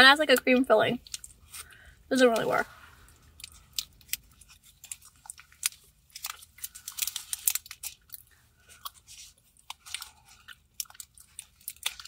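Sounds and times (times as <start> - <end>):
mouth chewing clicks and smacks: 0.3 - 1.7, 3.1 - 12.0.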